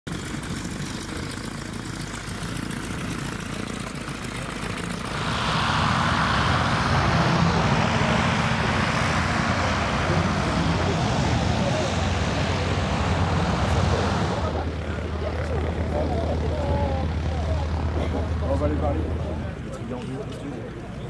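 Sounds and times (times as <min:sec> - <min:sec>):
propeller aircraft engine running: 0:00.1 - 0:21.0.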